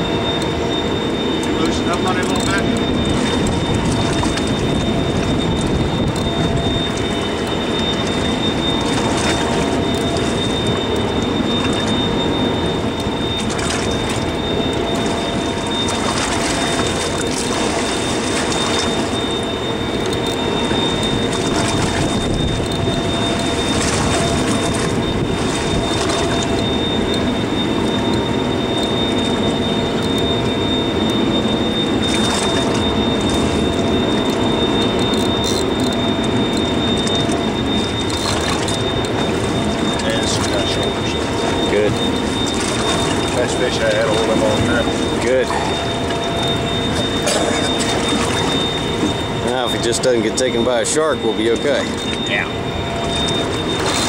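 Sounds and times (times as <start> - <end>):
boat machinery hum: 0.0 - 54.0
high thin whine: 0.0 - 54.0
wind and sea noise: 0.0 - 54.0.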